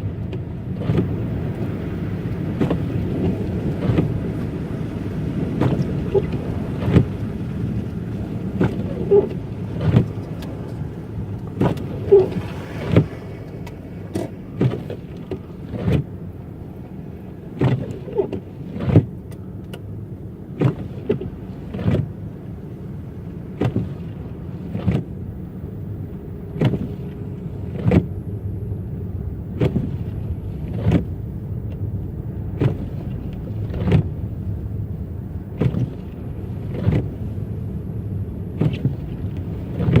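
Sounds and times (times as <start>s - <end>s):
road rumble inside car: 0.0s - 40.0s.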